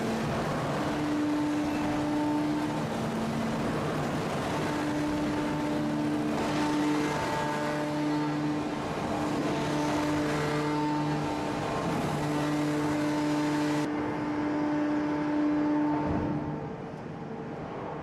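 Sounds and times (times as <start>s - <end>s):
forging press machinery humming: 0.0s - 17.6s.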